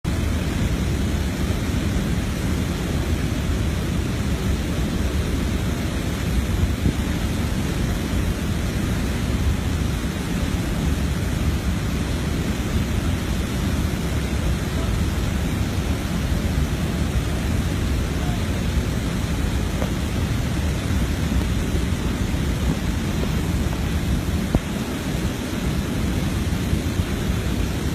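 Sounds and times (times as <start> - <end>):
rushing whitewater: 0.0 - 27.9.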